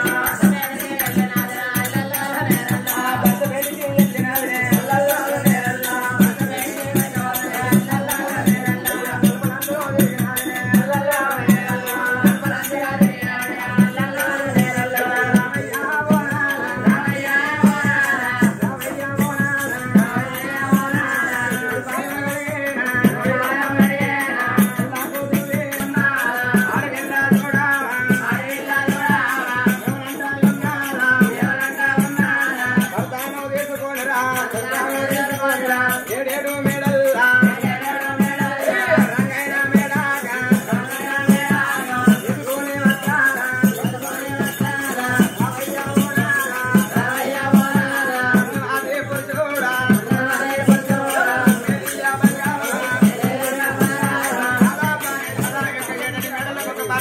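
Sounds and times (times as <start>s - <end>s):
steady drum beat: 0.0s - 57.0s.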